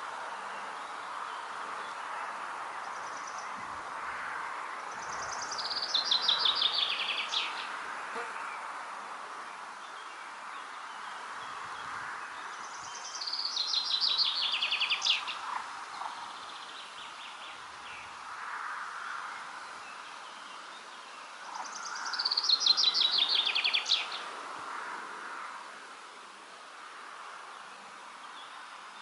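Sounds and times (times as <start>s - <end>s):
songbird singing: 0.0s - 25.4s, 26.6s - 29.0s
outdoor ambience: 0.0s - 29.0s.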